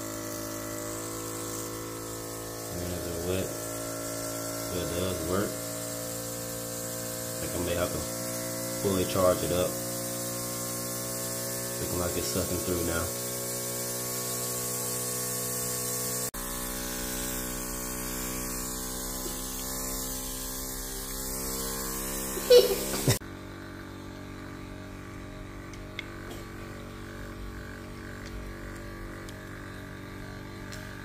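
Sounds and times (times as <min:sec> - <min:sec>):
spray gun motor hum: 0:00.0 - 0:31.0.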